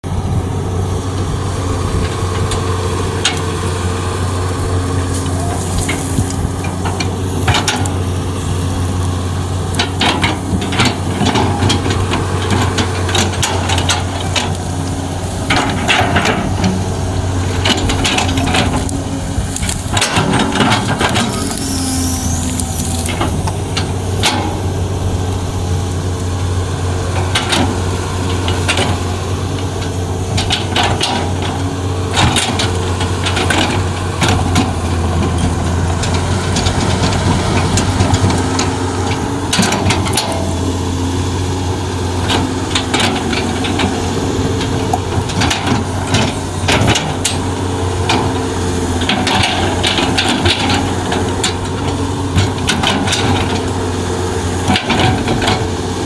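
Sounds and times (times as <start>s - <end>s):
excavator diesel engine droning: 0.0s - 56.0s.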